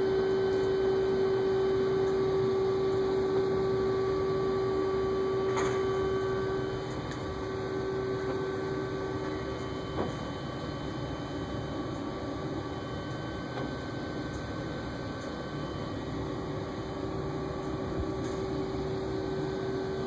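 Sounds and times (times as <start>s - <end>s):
steady hum with constant tone: 0.0s - 20.0s.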